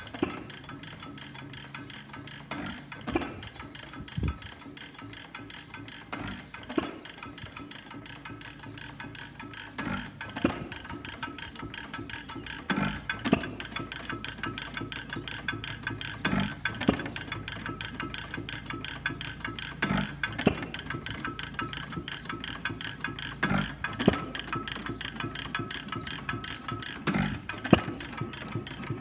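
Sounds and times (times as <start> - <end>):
engine mechanical clicking: 0.0 - 29.0
hit-and-miss engine firing: 0.0 - 29.0.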